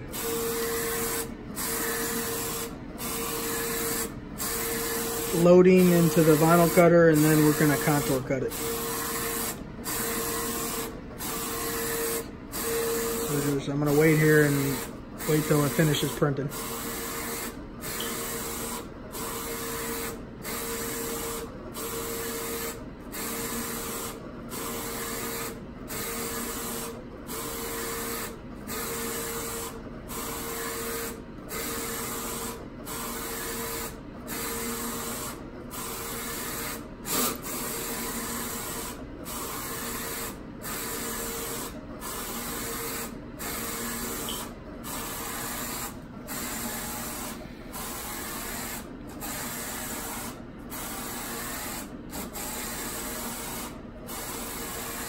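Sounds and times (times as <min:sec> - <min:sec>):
printer carriage motor whine: 0:00.0 - 0:55.0.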